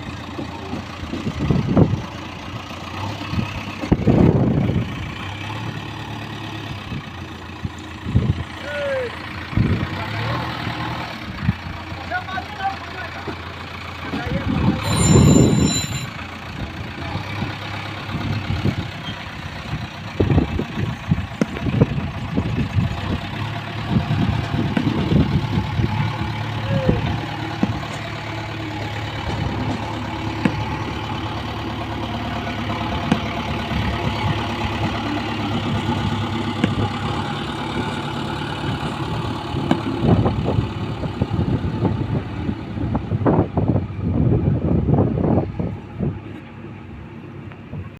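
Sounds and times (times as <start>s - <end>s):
diesel engine idling: 0.0s - 47.9s
low rumbles: 0.0s - 47.9s.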